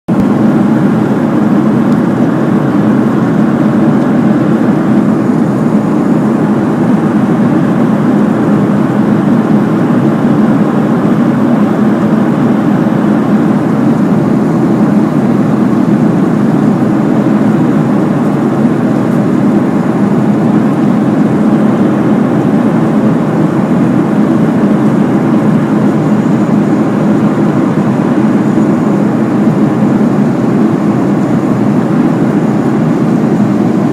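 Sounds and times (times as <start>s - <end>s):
airplane cabin drone: 0.1s - 33.9s.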